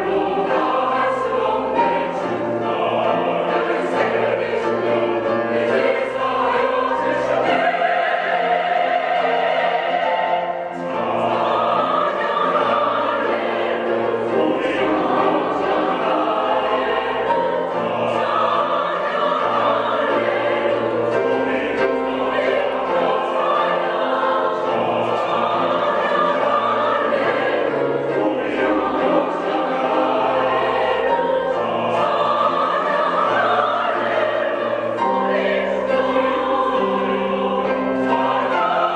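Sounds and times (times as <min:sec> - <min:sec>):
church choir singing: 0:00.0 - 0:38.9.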